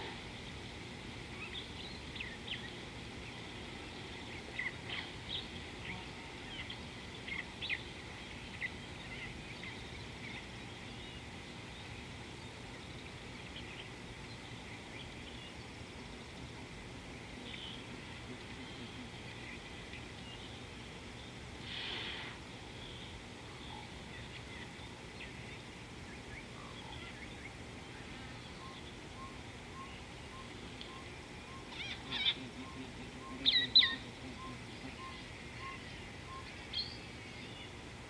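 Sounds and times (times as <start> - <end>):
birds chirping: 0.0 - 38.0
low background noise: 0.0 - 38.0.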